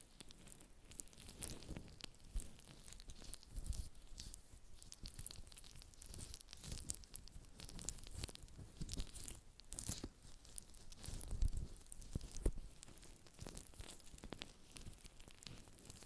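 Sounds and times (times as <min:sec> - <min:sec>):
close crackling and rustling: 0:00.0 - 0:16.0.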